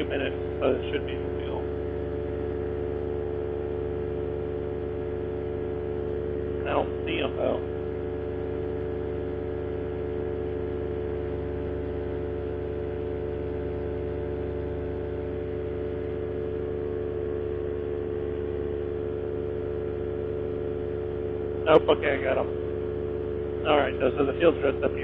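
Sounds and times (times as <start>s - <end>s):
paramotor engine droning: 0.0s - 25.0s.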